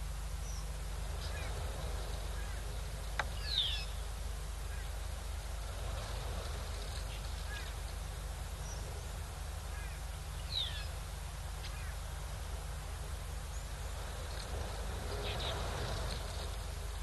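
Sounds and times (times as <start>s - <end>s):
birds chirping: 0.0s - 17.0s
outdoor hiss: 0.0s - 17.0s
steady low hum: 0.0s - 17.0s.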